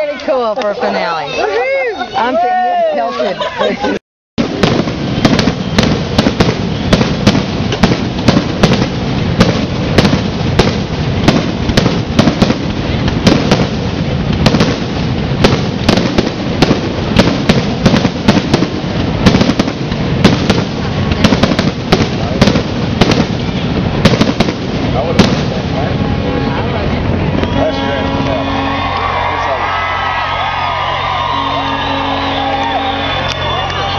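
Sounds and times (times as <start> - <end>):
fireworks crackling: 4.4 - 33.9
fireworks cracks and bangs: 4.4 - 33.9.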